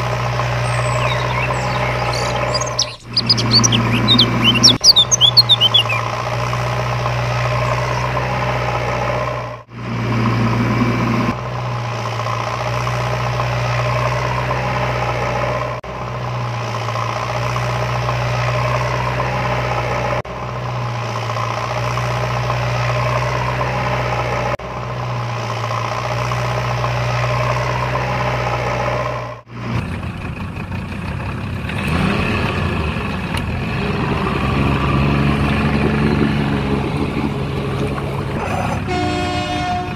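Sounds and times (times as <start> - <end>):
engine-like drone with low hum: 0.0 - 39.9.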